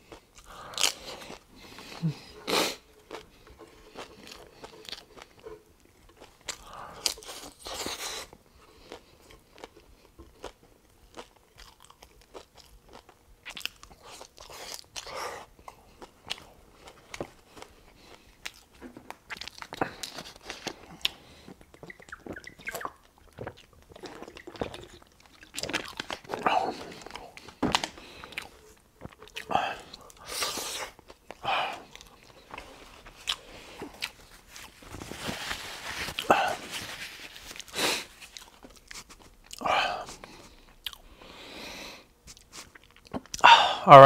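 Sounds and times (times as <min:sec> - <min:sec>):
man chewing food: 0:00.0 - 0:43.5.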